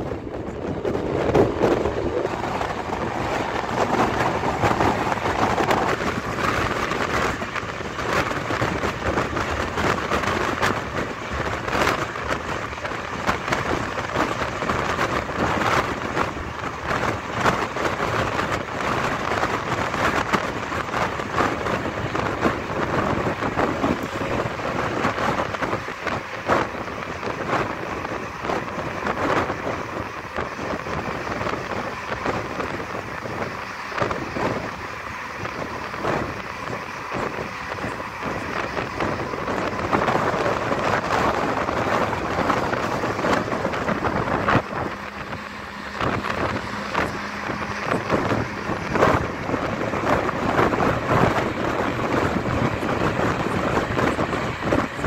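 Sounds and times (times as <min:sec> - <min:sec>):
bus engine tyre and wind noise: 0:00.0 - 0:55.0.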